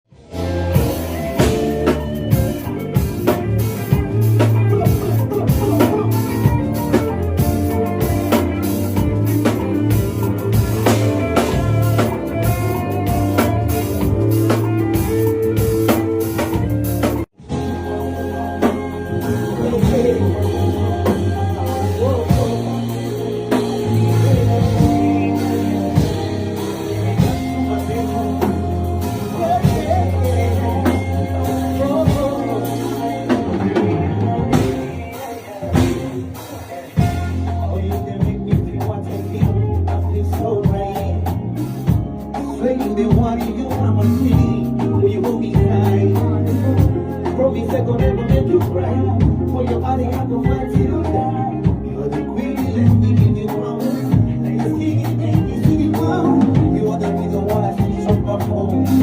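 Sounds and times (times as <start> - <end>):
singing over drum beat and bass: 0.1 - 59.0.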